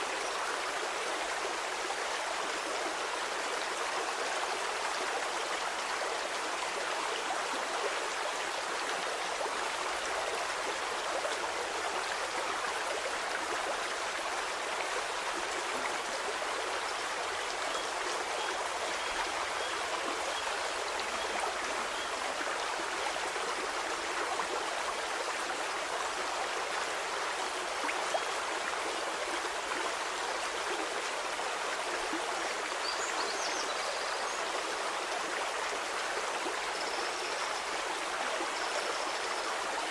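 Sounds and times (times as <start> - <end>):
stream water babbling over stones: 0.0 - 39.9.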